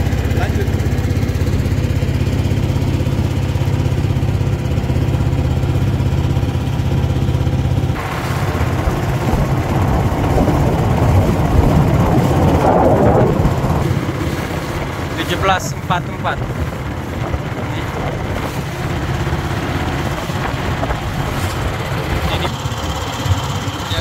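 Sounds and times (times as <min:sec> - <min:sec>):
boat engine running: 0:00.0 - 0:24.0
water rushing past hull: 0:00.0 - 0:24.0
wind: 0:00.0 - 0:24.0.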